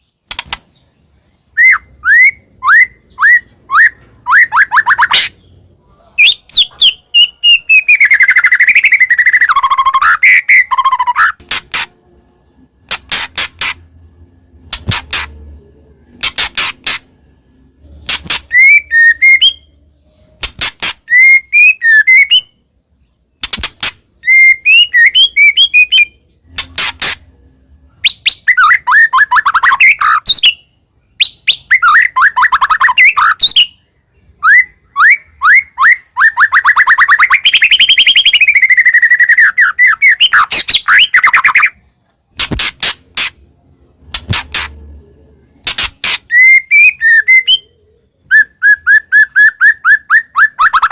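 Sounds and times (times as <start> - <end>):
bird singing whistled notes: 0.0 - 41.9, 43.1 - 50.9.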